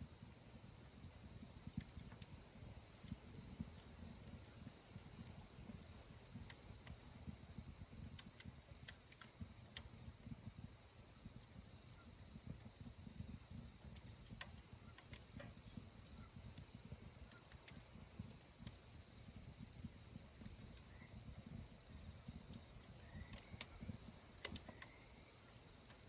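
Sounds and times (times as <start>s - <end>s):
insect trill: 0.0s - 26.0s
wood fire crackling and popping: 0.0s - 26.0s.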